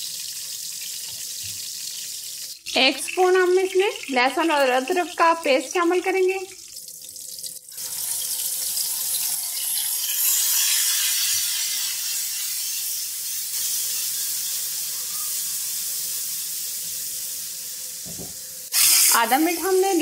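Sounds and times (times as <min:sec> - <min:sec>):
paste sizzling in hot ghee: 0:00.0 - 0:20.0.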